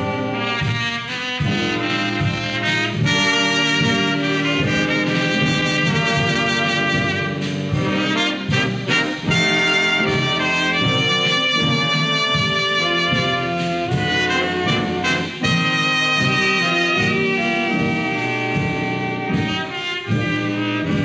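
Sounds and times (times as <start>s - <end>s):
big band brass playing chords: 0.0s - 21.0s.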